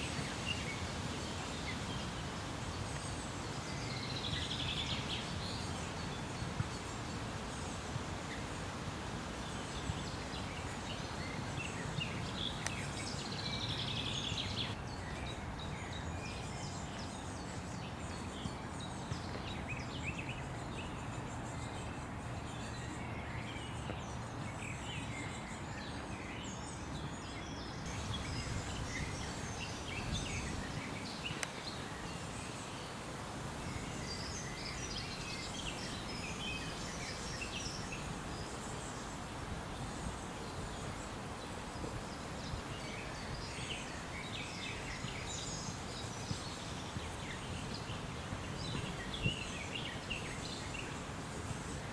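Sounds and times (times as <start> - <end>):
songbird trill: 0.0 - 51.9
steady background noise: 0.0 - 51.9.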